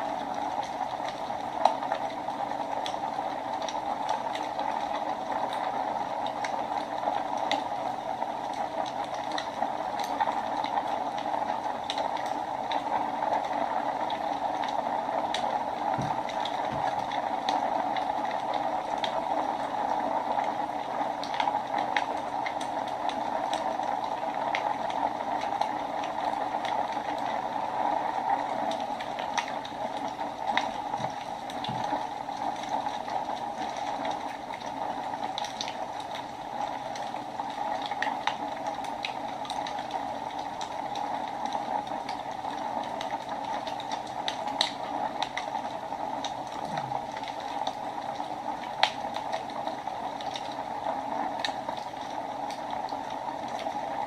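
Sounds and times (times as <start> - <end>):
wood fire crackling and hissing: 0.0 - 54.0.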